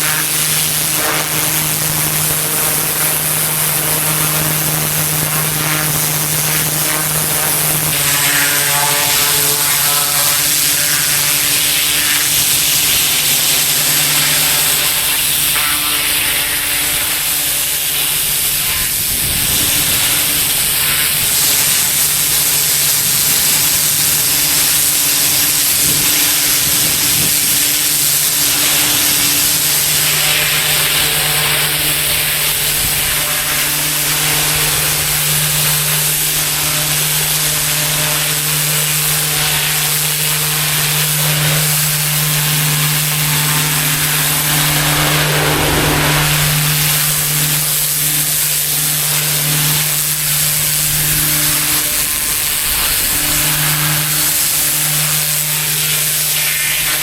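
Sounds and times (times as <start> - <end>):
pressure washer engine humming: 0.0 - 57.0
water spraying onto pavement: 0.0 - 57.0.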